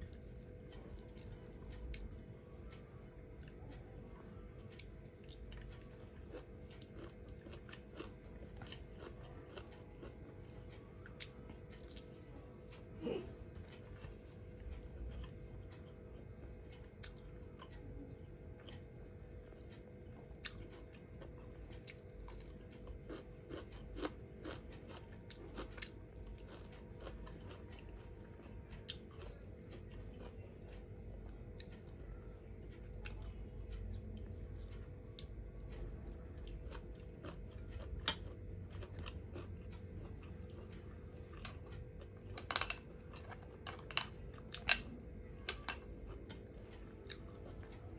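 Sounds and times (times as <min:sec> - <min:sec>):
faint steady hum: 0:00.0 - 0:47.9
person chewing and crunching: 0:00.0 - 0:47.9.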